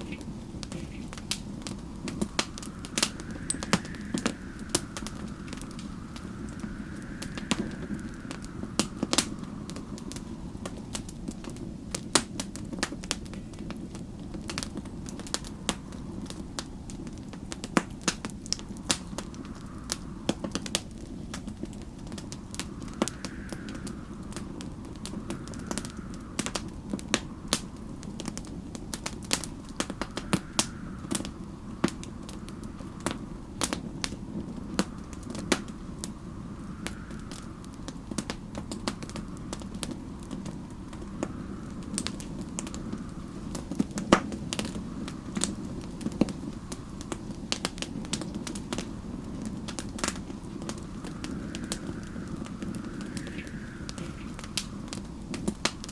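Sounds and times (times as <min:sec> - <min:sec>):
wind whistling: 0:00.0 - 0:55.9
wood fire crackling and popping: 0:00.0 - 0:55.9.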